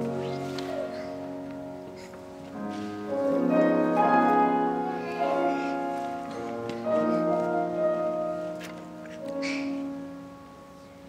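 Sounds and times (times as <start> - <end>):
slow piano chords and melody: 0.0 - 11.0.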